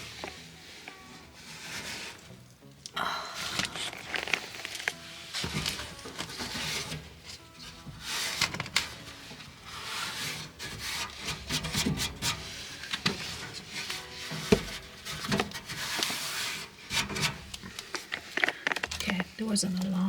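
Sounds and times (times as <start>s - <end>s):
duct rubbing and scraping: 0.0s - 2.4s, 3.4s - 19.7s.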